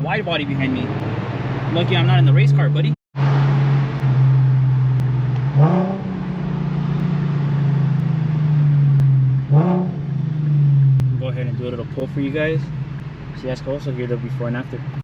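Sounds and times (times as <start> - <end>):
car exhaust droning: 0.0 - 15.0.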